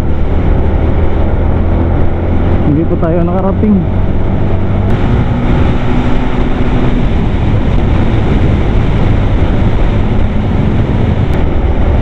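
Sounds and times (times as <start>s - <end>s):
motorcycle engine running: 0.0s - 12.0s
wind rush and road noise: 0.0s - 12.0s.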